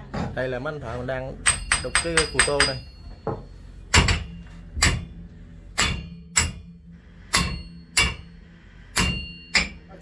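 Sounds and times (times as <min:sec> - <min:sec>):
low steady hum: 0:00.0 - 0:10.0
hammer striking metal chisel: 0:01.4 - 0:09.9.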